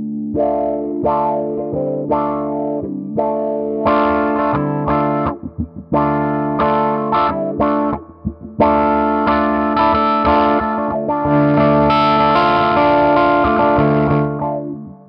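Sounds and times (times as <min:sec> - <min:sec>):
electric guitar chords with filter: 0:00.0 - 0:15.0.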